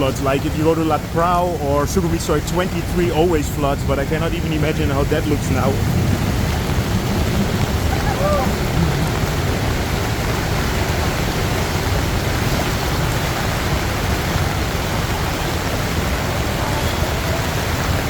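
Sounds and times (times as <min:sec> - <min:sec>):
heavy rain hiss: 0:00.0 - 0:18.0
low rumble: 0:00.0 - 0:18.0.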